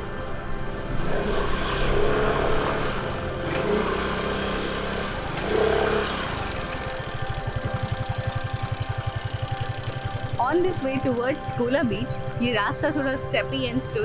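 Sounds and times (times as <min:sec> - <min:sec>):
motor scooter engine revving: 0:00.0 - 0:14.0.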